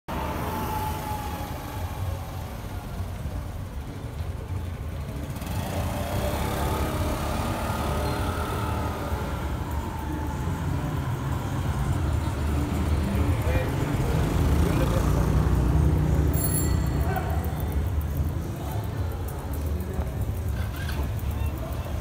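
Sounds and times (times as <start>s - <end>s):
traffic and riding rumble: 0.1s - 22.0s
van passing: 0.1s - 22.0s.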